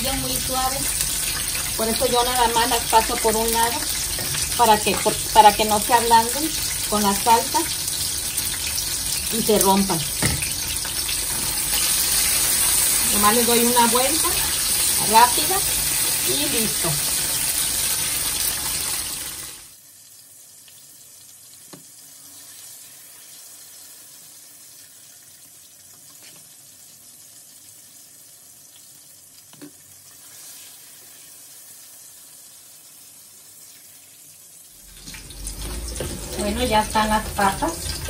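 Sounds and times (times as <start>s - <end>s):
hot oil sizzling in a skillet: 0.0s - 38.0s.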